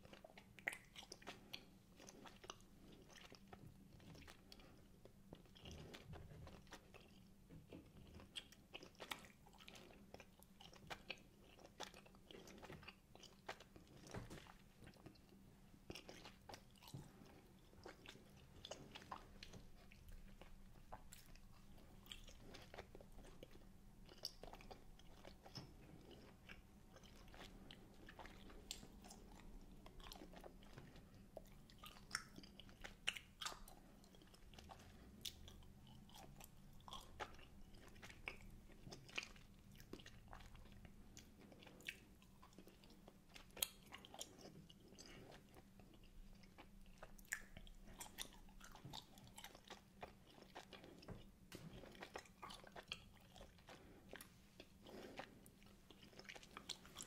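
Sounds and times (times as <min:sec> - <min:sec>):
chewing gummy sweets: 0:00.0 - 0:57.0.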